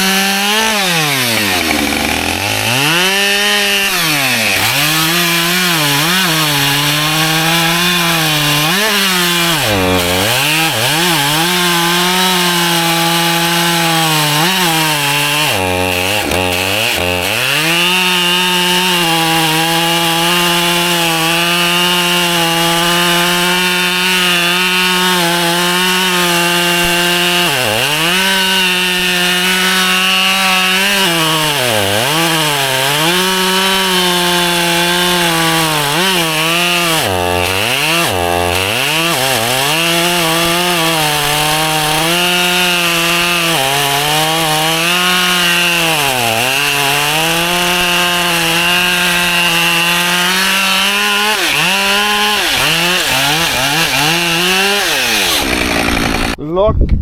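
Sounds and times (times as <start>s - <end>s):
chainsaw cutting logs: 0.0s - 56.4s.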